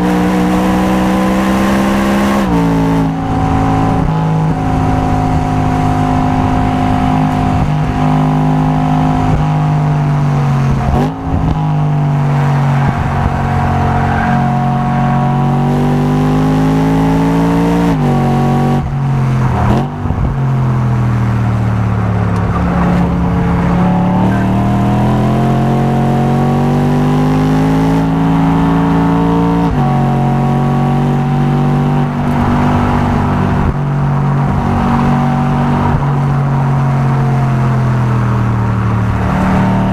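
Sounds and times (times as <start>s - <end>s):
race car engine and exhaust: 0.0s - 39.9s.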